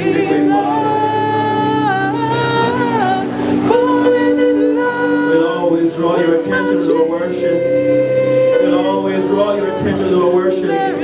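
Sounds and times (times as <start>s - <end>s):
keyboard playing chords: 0.0s - 11.0s
voices singing: 0.0s - 11.0s.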